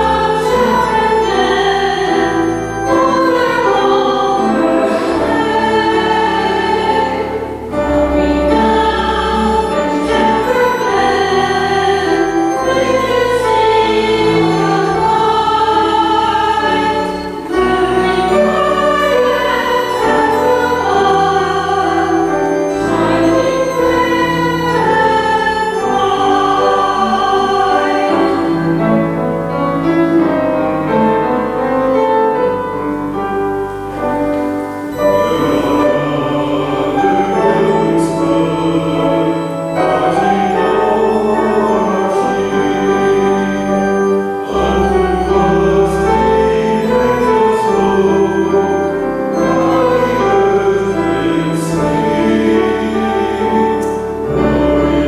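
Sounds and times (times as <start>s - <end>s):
mixed choir singing: 0.0s - 55.0s
organ playing: 0.0s - 55.0s.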